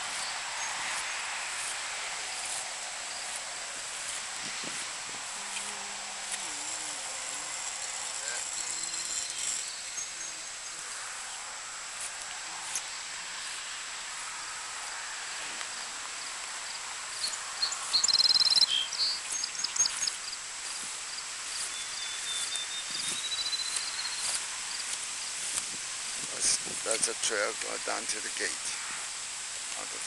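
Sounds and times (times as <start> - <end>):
crickets and insects trilling: 0.0 - 30.0.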